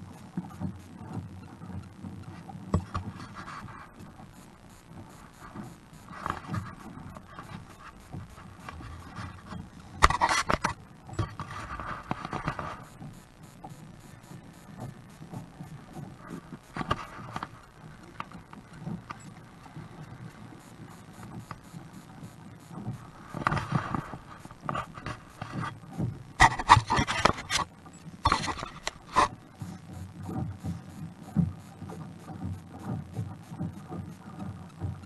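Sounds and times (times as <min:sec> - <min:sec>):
water splashing against kayak hull: 0:00.0 - 0:35.0.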